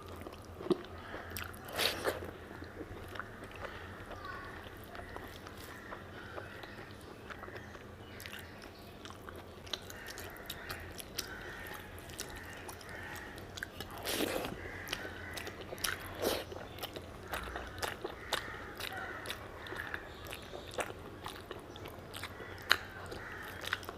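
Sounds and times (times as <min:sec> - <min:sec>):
person chewing food: 0:00.0 - 0:23.9.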